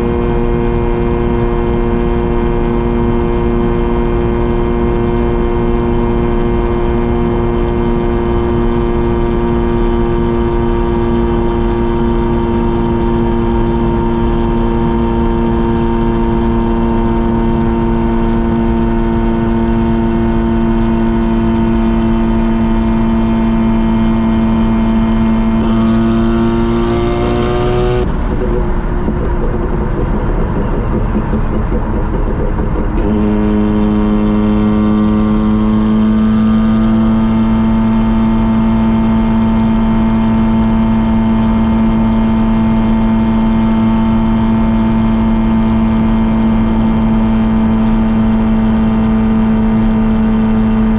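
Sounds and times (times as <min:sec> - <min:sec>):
rotary engine and exhaust droning: 0:00.0 - 0:50.9.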